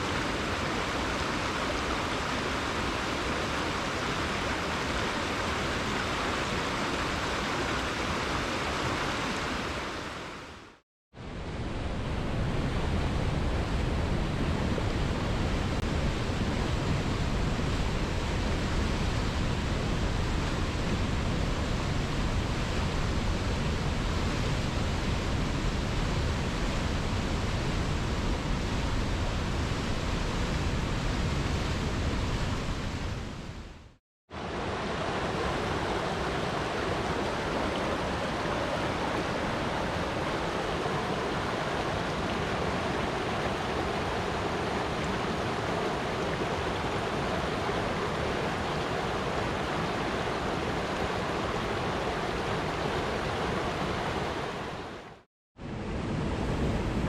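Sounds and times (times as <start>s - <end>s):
flowing river water: 0.0s - 33.6s, 34.3s - 57.0s.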